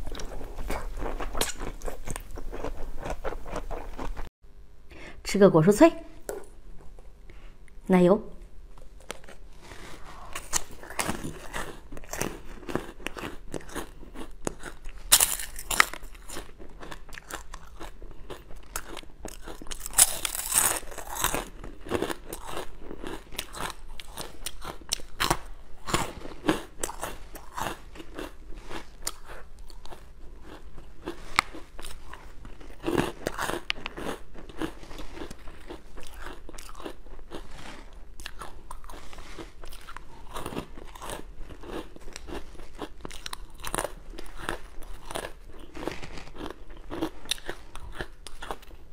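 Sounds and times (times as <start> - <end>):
crackling chewing: 0.0 - 4.3, 8.8 - 48.9.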